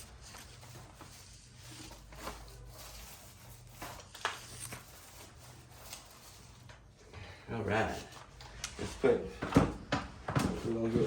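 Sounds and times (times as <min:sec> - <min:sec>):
paint roller squishing on wall: 0:00.0 - 0:07.0, 0:07.8 - 0:11.0.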